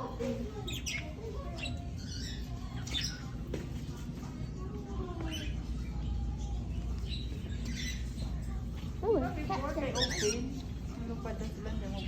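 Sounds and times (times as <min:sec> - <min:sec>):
low background hum: 0:00.0 - 0:12.0
small birds chirping: 0:00.0 - 0:12.0.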